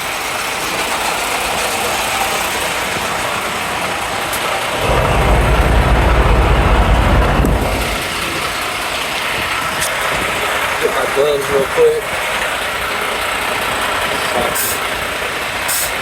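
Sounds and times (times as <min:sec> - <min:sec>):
truck diesel engine rumbling: 0:00.0 - 0:16.0.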